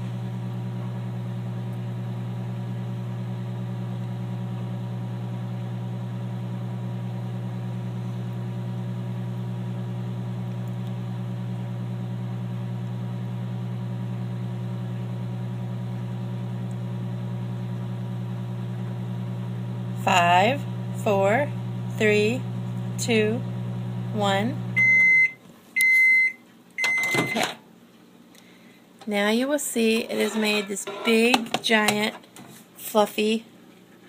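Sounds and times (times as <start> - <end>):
microwave oven humming: 0.0 - 32.3.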